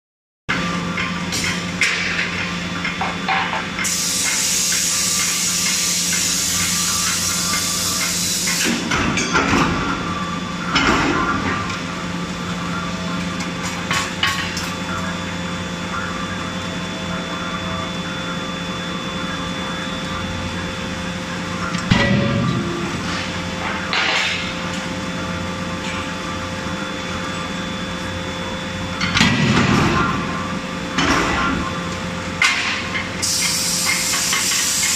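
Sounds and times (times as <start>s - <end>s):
machinery humming: 0.5s - 34.9s.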